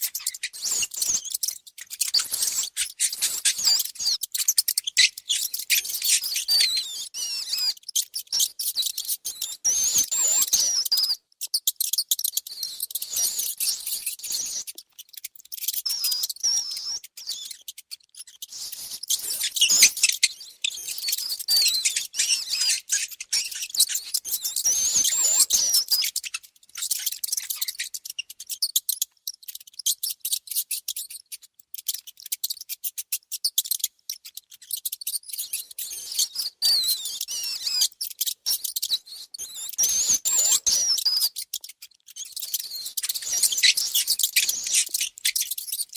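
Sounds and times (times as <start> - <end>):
mice squeaking: 0.0 - 45.9
tiny rapid clicks and scratches: 0.0 - 45.9.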